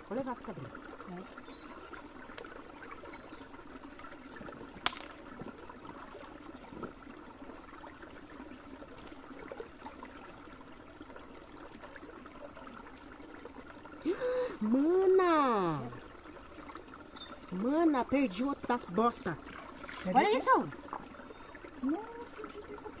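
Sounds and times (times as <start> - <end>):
stream trickling over stones: 0.0 - 23.0.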